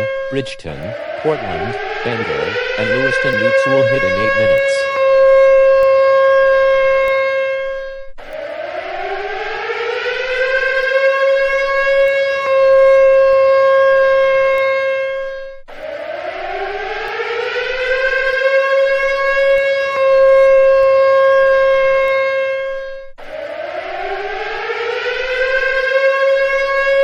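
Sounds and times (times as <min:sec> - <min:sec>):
civil defense siren: 0:00.0 - 0:27.0.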